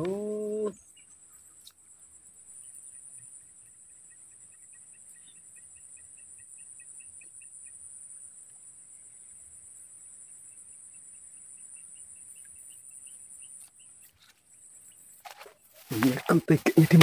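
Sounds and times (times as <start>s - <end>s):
insect drone: 0.0s - 17.0s
repeated insect chirps: 0.0s - 17.0s.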